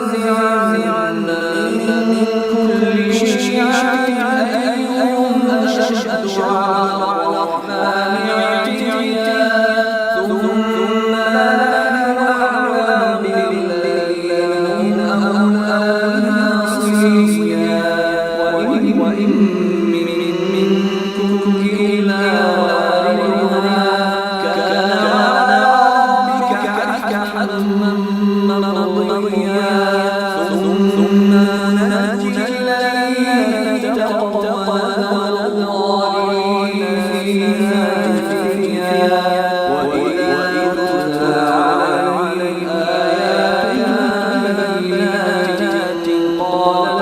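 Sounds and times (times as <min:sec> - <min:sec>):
man chanting melodically: 0:00.0 - 0:47.0.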